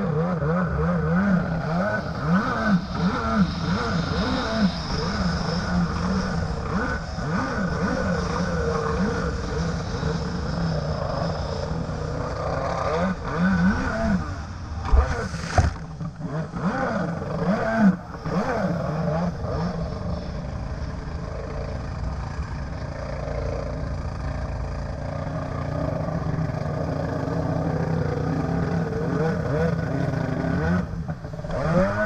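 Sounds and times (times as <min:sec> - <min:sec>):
jet ski engine revving: 0:00.0 - 0:32.0.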